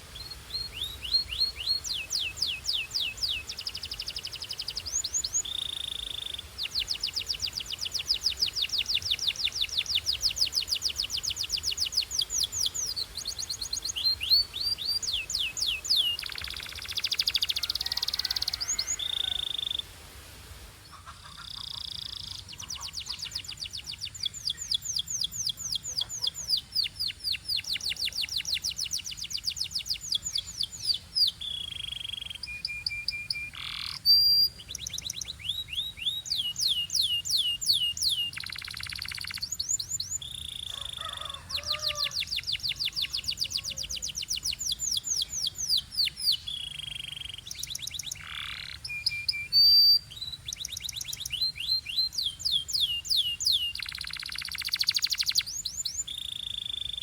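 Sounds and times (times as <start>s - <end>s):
canary singing trills: 0.0s - 19.9s, 20.9s - 57.0s.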